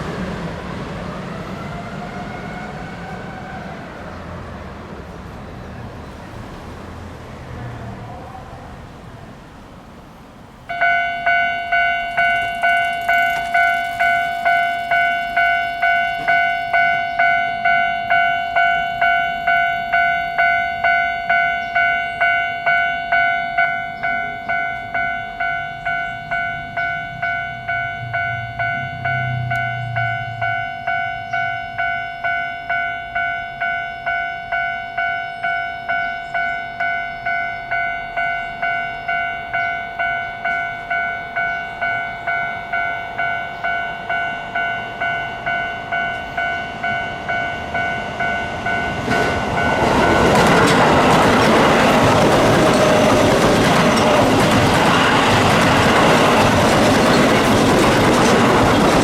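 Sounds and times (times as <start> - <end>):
level-crossing alarm bell: 10.7 - 59.0.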